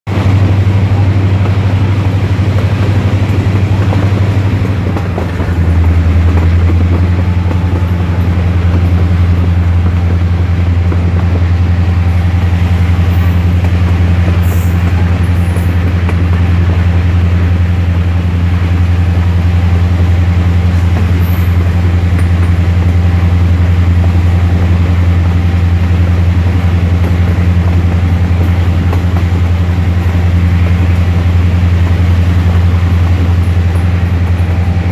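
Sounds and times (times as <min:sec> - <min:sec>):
train rumbling on rails: 0:00.0 - 0:34.9
locomotive engines droning: 0:00.1 - 0:34.9.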